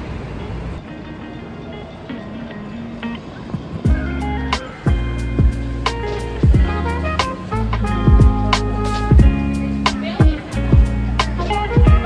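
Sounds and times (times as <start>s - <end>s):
background music: 0.8s - 12.0s.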